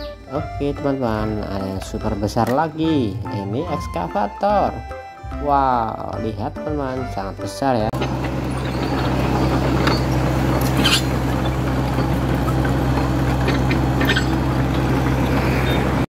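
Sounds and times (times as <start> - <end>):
excavator diesel engine running: 0.0 - 5.4, 6.2 - 16.0.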